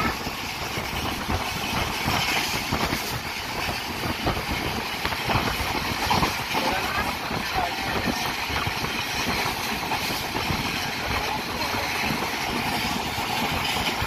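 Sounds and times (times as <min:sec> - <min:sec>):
rushing air: 0:00.0 - 0:14.0
train wheels on rails: 0:00.0 - 0:14.0.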